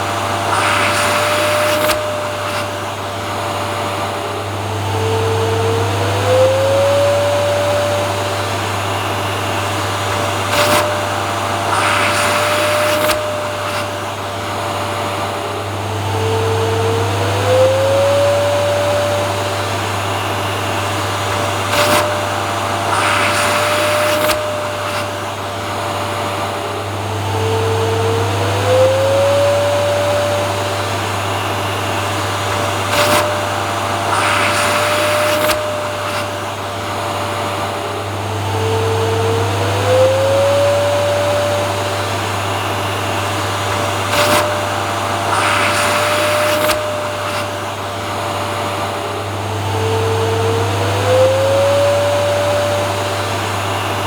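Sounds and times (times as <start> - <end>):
vacuum cleaner motor running: 0.0 - 54.0.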